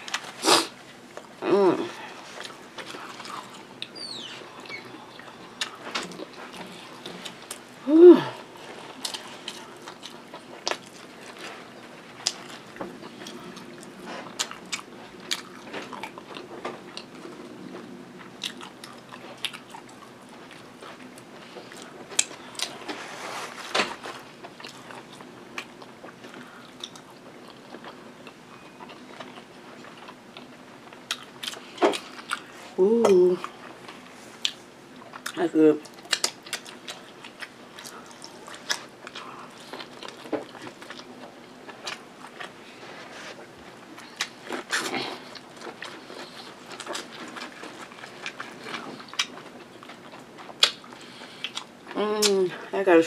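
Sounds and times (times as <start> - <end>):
person chewing food: 0.0 - 52.4.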